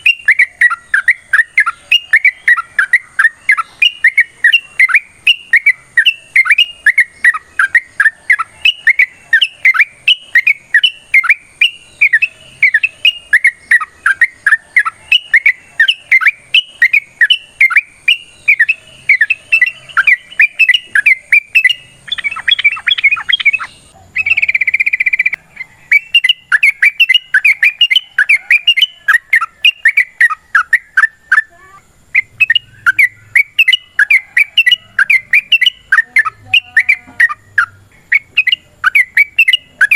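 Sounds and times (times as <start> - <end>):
bird chattering song: 0.0 - 39.9
harsh buzzy bird call: 0.0 - 39.9.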